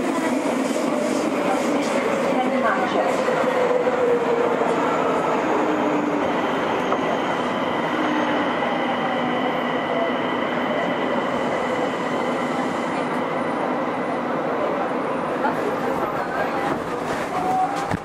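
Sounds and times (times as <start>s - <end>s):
subway train rail running noise: 0.0s - 18.0s.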